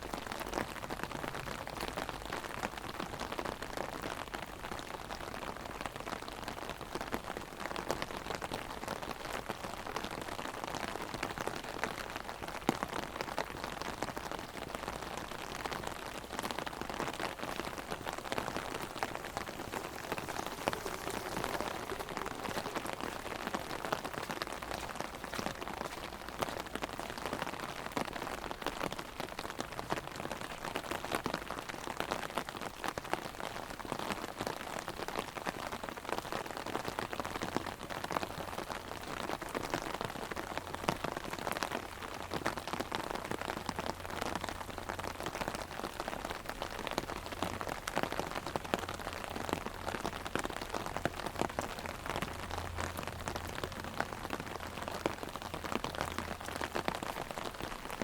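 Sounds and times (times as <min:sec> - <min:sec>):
heavy rain on umbrella: 0:00.0 - 0:58.0.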